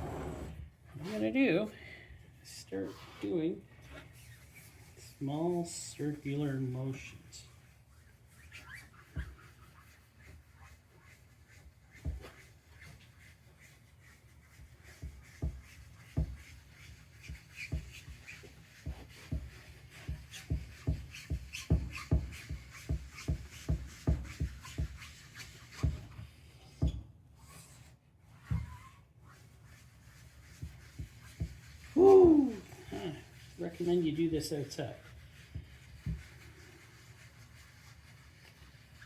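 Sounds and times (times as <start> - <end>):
pad rubbing on plastic: 0.0 - 1.2, 2.8 - 39.0.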